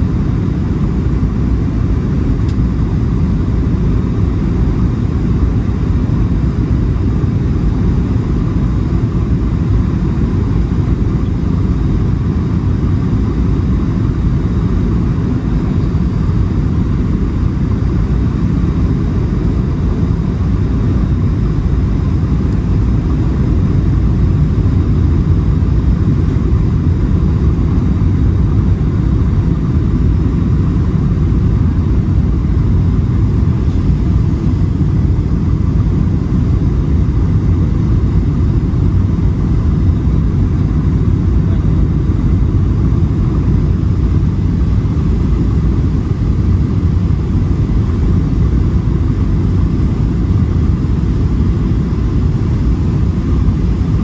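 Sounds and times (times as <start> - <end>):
jet engines rumbling in cabin: 0.0 - 54.0.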